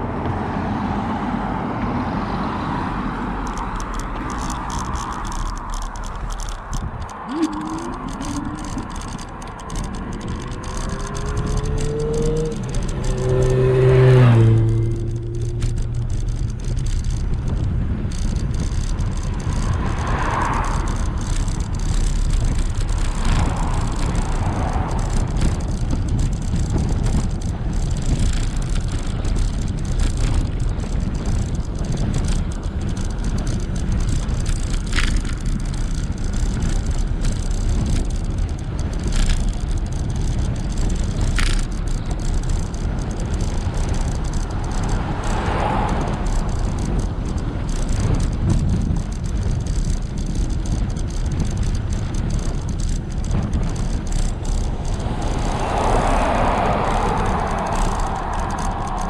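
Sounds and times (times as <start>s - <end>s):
wind and tyre rumble: 0.0s - 59.0s
bike rattles: 3.2s - 59.0s.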